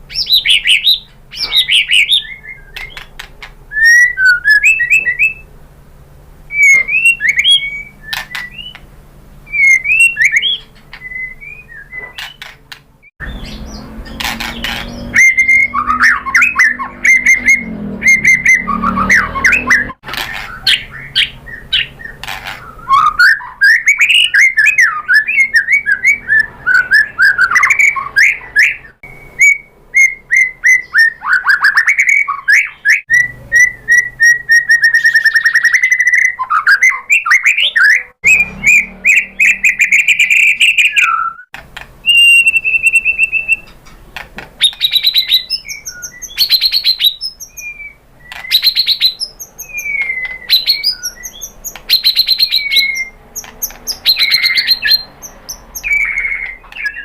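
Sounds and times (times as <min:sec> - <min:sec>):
bird singing whistled phrases: 0:00.1 - 0:03.1, 0:03.7 - 0:05.5, 0:06.5 - 0:08.8, 0:09.5 - 0:12.4, 0:14.6 - 0:43.8, 0:44.6 - 0:57.0.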